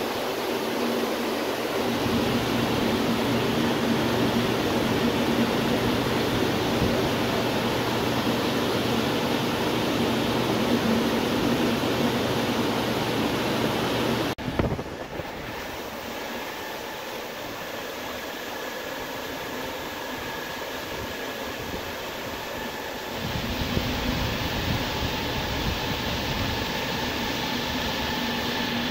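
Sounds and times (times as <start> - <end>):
aerator low hum: 0.0 - 28.9
faint high whine: 0.0 - 28.9
turbulent water churning: 0.0 - 28.9.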